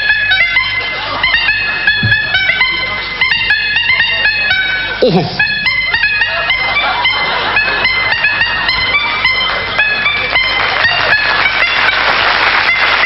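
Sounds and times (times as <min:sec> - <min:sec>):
honking horn melody: 0:00.0 - 0:13.0.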